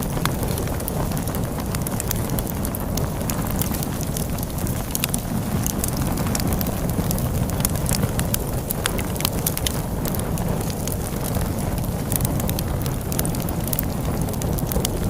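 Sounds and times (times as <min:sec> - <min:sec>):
log fire crackling: 0:00.0 - 0:15.0
storm wind rumble: 0:00.0 - 0:15.0.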